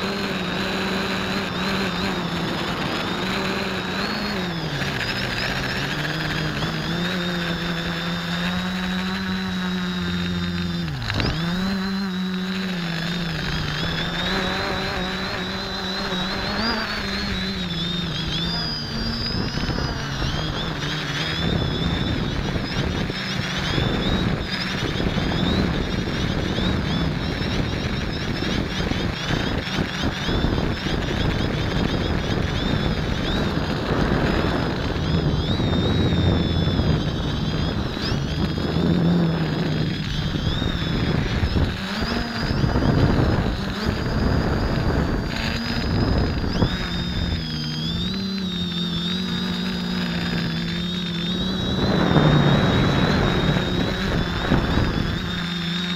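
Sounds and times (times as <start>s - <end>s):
drone motors buzzing and whining: 0.0s - 55.9s
rush of wind: 0.0s - 55.9s.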